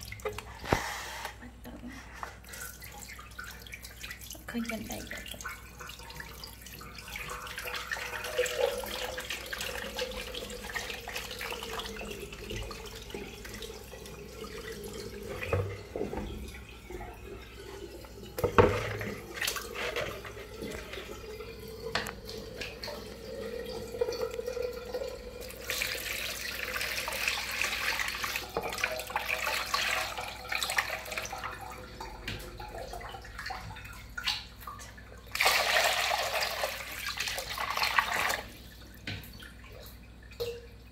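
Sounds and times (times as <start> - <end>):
water sloshing in a plastic basin: 0.0 - 40.9.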